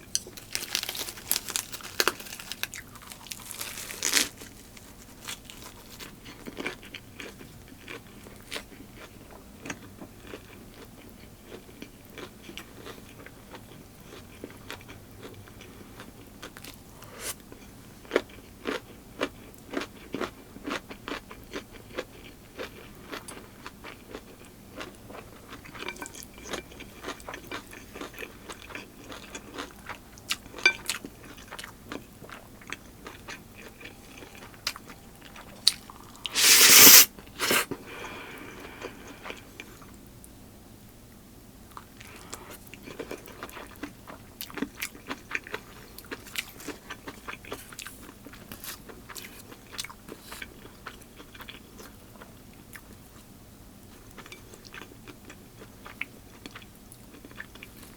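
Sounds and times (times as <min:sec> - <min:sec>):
person chewing crunchy food: 0:00.0 - 0:40.0, 0:41.7 - 0:53.2, 0:53.9 - 0:57.9.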